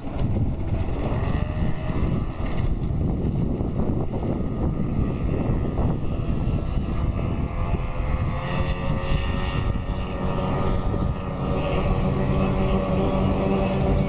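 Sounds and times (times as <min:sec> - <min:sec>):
powerboat engines droning: 0:00.0 - 0:14.0.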